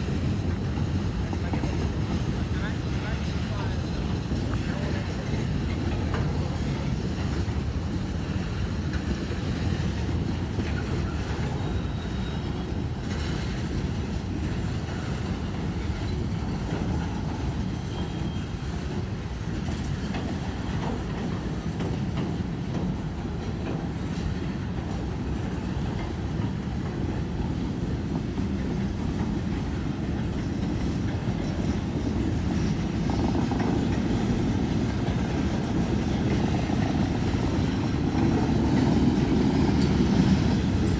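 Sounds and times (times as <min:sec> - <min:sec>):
train rumbling: 0:00.0 - 0:40.9
train wheels clacking on rails: 0:00.0 - 0:40.9.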